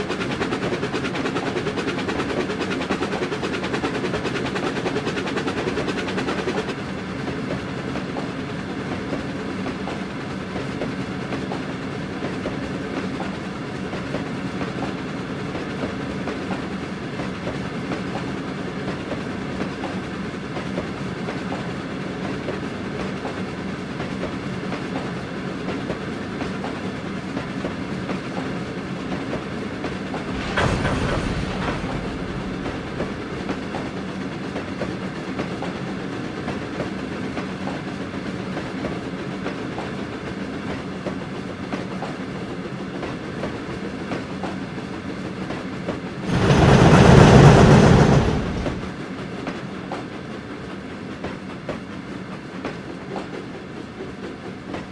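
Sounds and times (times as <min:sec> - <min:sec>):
train wheels clacking over rails: 0:00.0 - 0:54.9.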